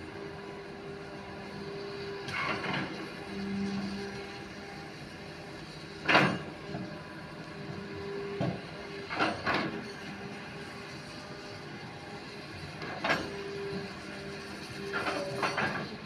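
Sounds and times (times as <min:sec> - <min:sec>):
excavator engine hum: 0:00.0 - 0:16.0.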